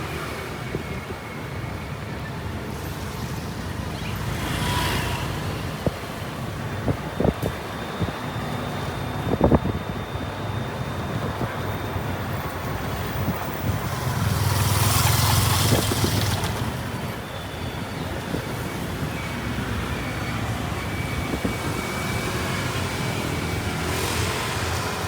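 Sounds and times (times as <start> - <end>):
road noise from moving vehicle: 0.0 - 25.0.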